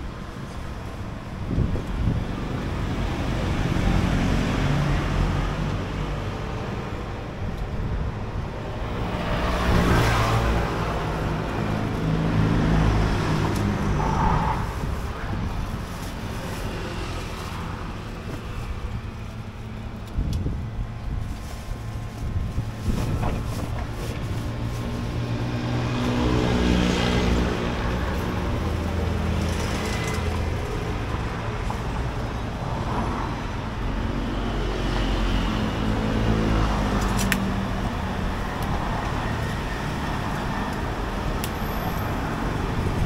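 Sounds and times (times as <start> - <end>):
vehicles driving past: 0.0 - 43.0.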